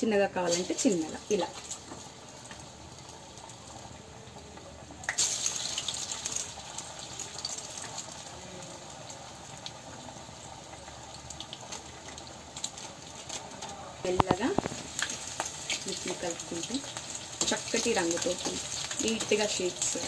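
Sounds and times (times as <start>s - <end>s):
hot oil sizzling: 0.0s - 20.0s
batter hissing in oil: 0.4s - 20.0s.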